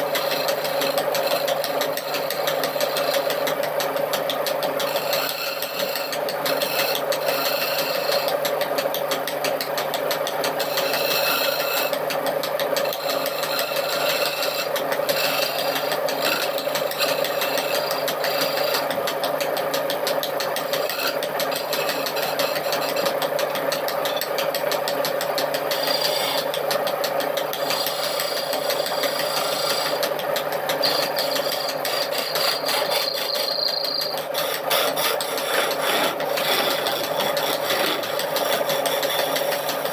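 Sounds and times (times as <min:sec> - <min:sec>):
power tool grinding wood: 0:00.0 - 0:39.9.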